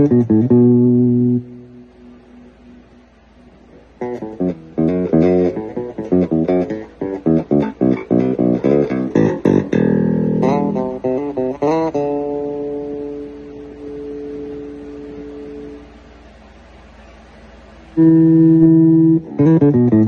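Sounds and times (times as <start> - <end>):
electric bass guitar solo: 0.0 - 3.0, 3.9 - 15.8, 18.0 - 20.0.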